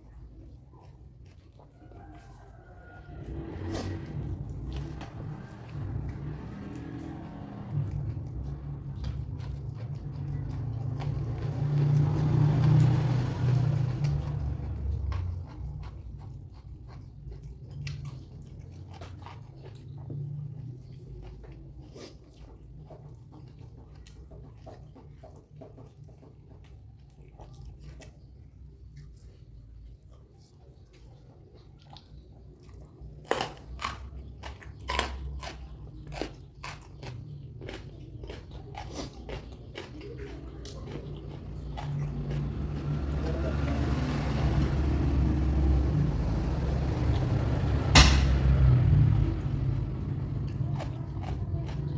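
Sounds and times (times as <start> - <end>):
chewing food: 0.0 - 51.9.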